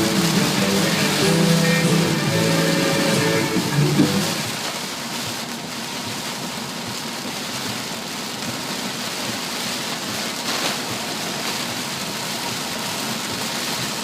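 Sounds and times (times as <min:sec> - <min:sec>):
car tyres through floodwater: 0:00.0 - 0:14.0
heavy rain: 0:00.0 - 0:14.0.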